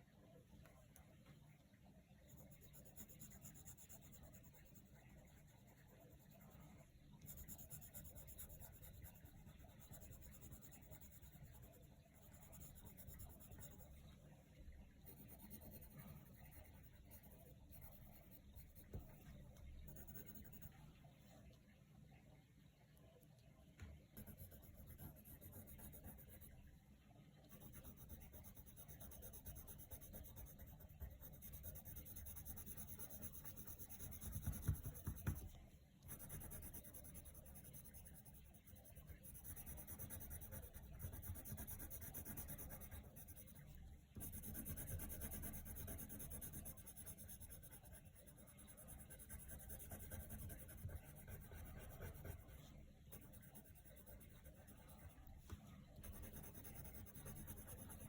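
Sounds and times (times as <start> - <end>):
coloured pencil scratching on paper: 2.2 - 14.1, 15.0 - 20.8, 24.2 - 26.6, 27.5 - 58.0.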